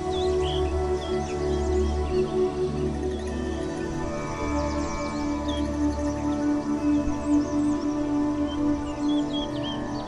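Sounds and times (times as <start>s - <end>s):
calm ambient music: 0.0s - 10.0s.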